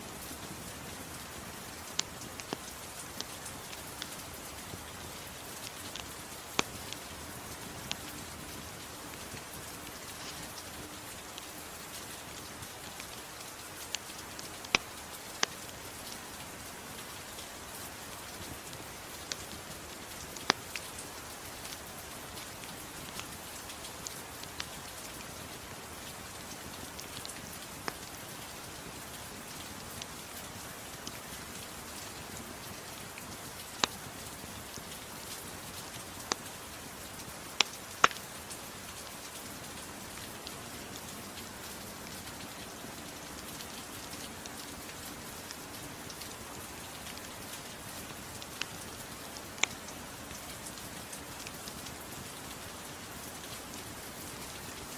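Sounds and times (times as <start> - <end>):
gentle rain: 0.0 - 54.9.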